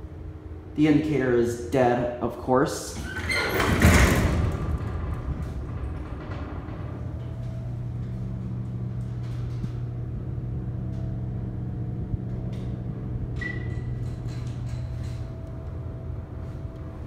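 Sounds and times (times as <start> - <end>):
elevator electric hum: 0.0 - 17.0.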